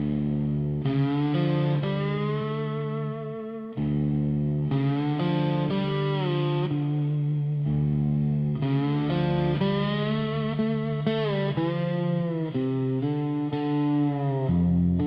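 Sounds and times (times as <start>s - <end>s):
steady bass: 0.0s - 12.4s
electric guitar lead notes: 0.0s - 15.0s.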